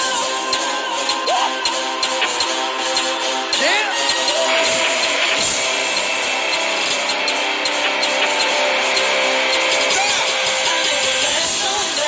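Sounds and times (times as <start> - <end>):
pop dance music: 0.0 - 12.0
soft ticking beat: 0.0 - 12.0
synth chords: 0.0 - 12.0.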